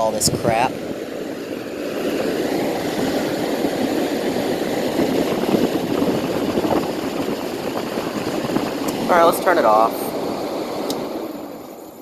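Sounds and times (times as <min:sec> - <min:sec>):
fan blowing air: 0:00.0 - 0:12.0
window air conditioner running: 0:00.0 - 0:12.0.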